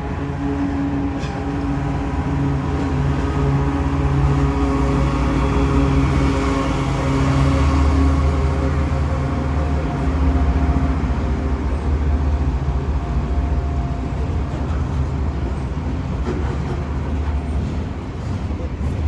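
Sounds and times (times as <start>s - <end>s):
diesel locomotive engine drone: 0.0s - 19.0s
train rolling: 0.0s - 19.0s.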